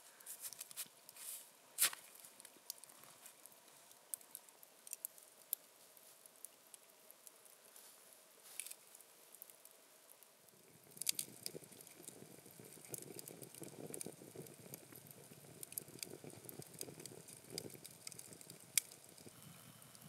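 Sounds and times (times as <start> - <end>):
fish sizzling over fire: 0.1 - 20.0
campfire crackling and popping: 0.2 - 20.0.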